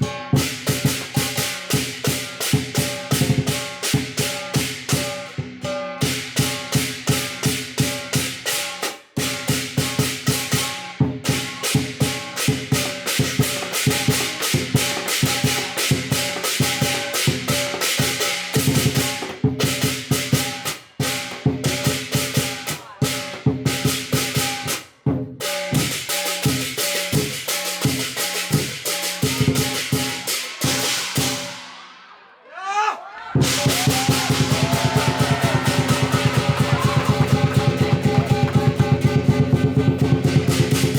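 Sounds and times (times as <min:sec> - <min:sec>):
cymbals clashing: 0:00.0 - 0:32.1, 0:33.4 - 0:40.9
drum beaten in fast rolls: 0:00.1 - 0:31.8, 0:33.4 - 0:40.9.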